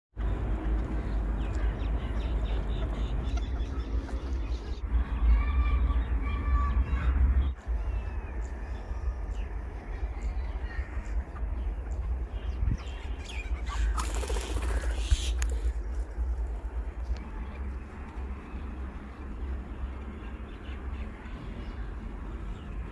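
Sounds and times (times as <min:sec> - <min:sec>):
steady low rumble: 0:00.2 - 0:22.9
wild birds calling: 0:00.9 - 0:22.9.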